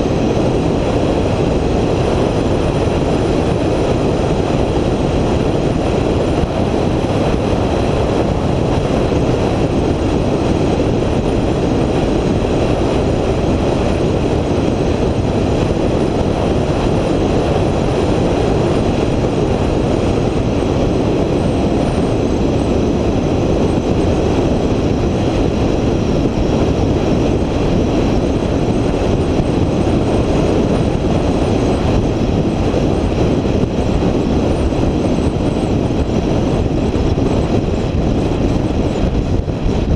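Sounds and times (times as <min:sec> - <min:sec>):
vehicle road and wind noise: 0:00.0 - 0:39.9.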